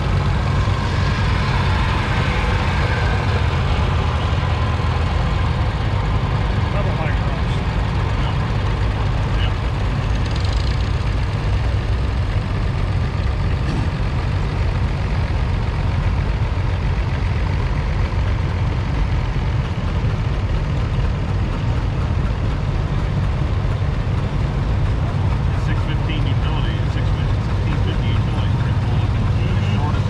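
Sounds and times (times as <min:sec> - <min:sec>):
tractor engines idling and driving: 0:00.0 - 0:30.0.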